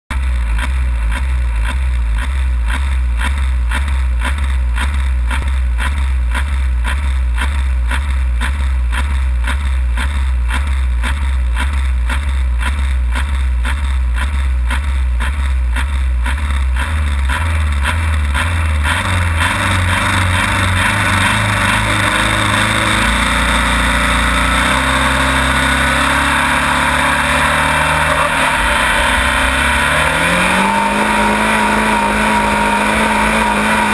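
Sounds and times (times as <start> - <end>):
tractor engine idling: 0.1 - 33.9.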